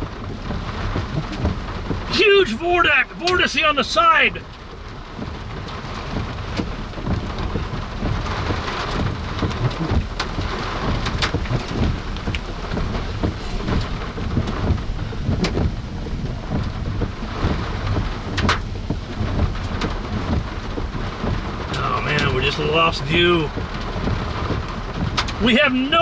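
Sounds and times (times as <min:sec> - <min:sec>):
heavy rain on vehicle roof: 0:00.0 - 0:26.0.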